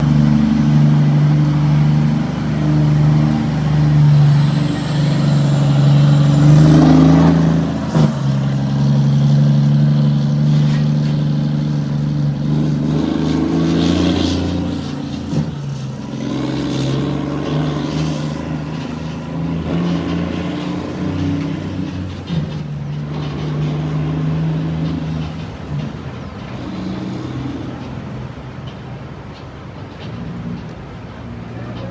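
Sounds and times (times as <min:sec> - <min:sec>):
diesel truck engine rumbling: 0:00.0 - 0:31.9.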